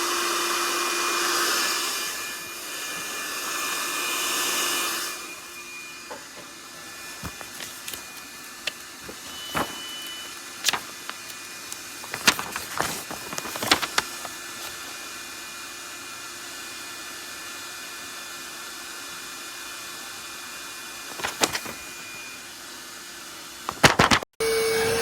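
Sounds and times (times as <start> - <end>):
handheld vacuum motor running: 0.0 - 25.0.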